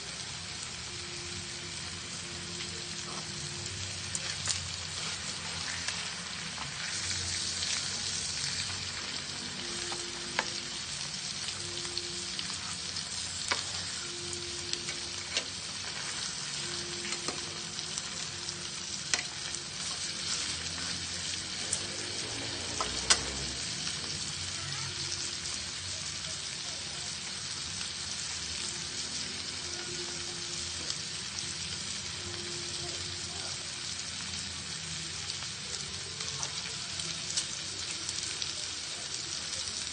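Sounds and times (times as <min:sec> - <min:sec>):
pork chops sizzling: 0:00.0 - 0:39.9.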